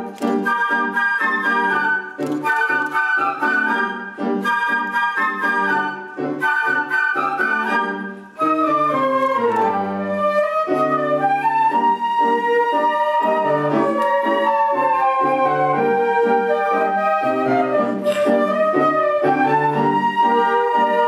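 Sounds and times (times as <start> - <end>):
flute ensemble playing tango: 0.0 - 21.0.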